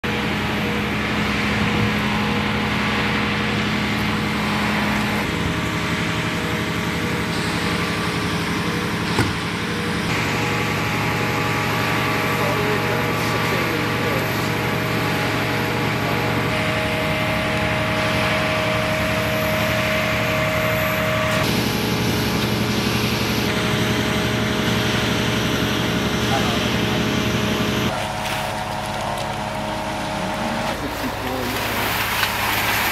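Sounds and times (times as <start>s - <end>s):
engine running with constant hum: 0.0s - 32.9s.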